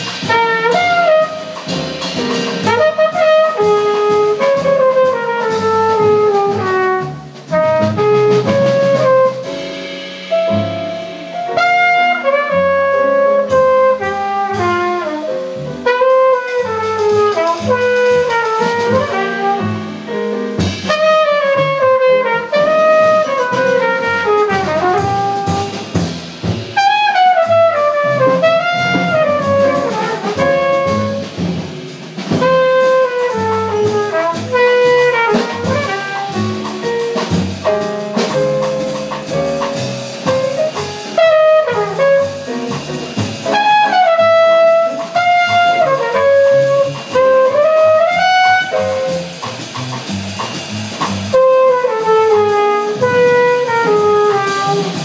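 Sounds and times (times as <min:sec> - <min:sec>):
trumpet solo: 0:00.0 - 0:01.8, 0:02.6 - 0:09.5, 0:11.3 - 0:20.1, 0:20.8 - 0:25.9, 0:26.8 - 0:31.5, 0:32.3 - 0:37.4, 0:39.7 - 0:42.8, 0:43.4 - 0:49.7, 0:51.3 - 0:55.0
drum kit with ride cymbal: 0:00.0 - 0:55.0
piano: 0:00.0 - 0:55.0
walking double bass: 0:00.0 - 0:55.0.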